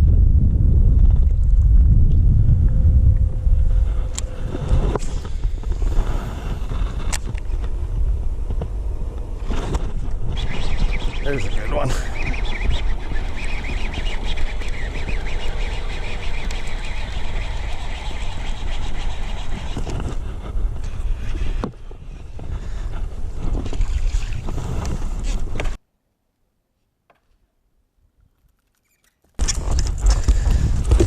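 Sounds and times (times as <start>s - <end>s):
wind rumbling on microphone: 0.0s - 25.8s, 29.4s - 31.0s.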